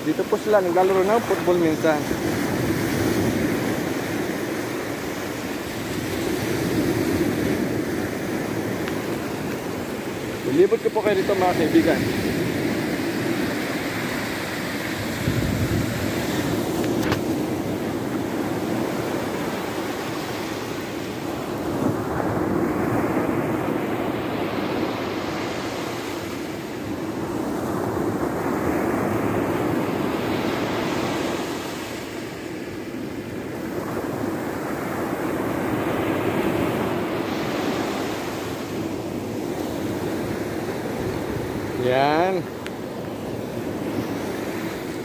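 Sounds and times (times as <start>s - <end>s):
ocean surf on a beach: 0.0s - 45.0s.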